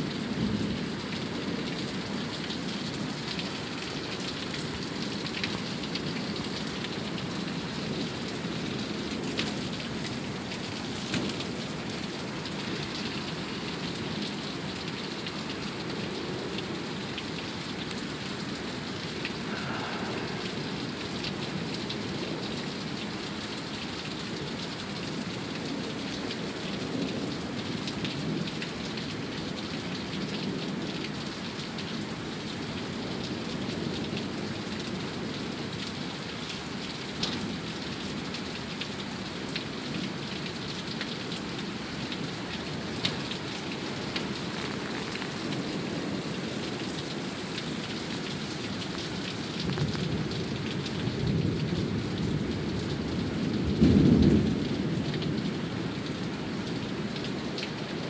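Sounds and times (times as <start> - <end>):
heavy rain pouring: 0.0 - 58.0
raindrops ticking close by: 0.0 - 58.0.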